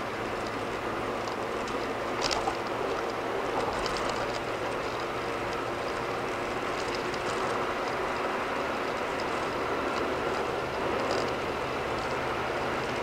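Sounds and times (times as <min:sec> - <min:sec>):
car tyre and road noise: 0:00.0 - 0:13.0.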